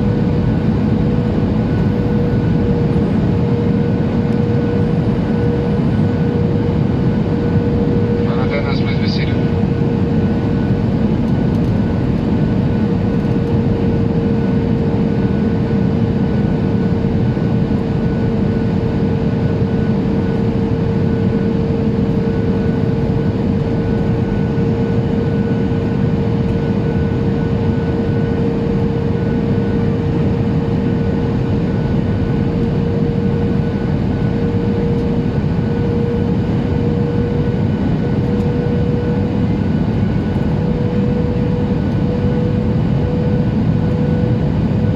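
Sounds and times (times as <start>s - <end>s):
aircraft cabin engine rumble: 0.0s - 44.9s
jet engine whine: 0.0s - 44.9s.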